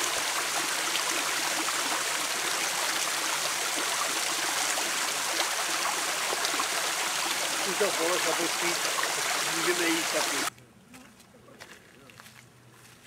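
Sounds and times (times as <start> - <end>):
water splashing from spout: 0.0 - 10.5.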